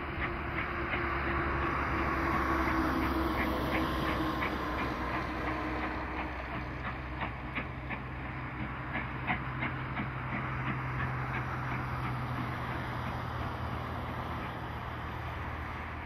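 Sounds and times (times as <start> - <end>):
train rumbling: 0.0 - 16.0
wheels squeaking and clicking: 0.0 - 16.0.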